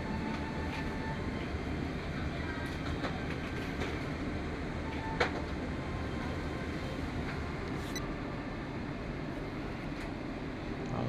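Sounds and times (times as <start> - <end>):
airplane cabin hum: 0.0 - 10.6.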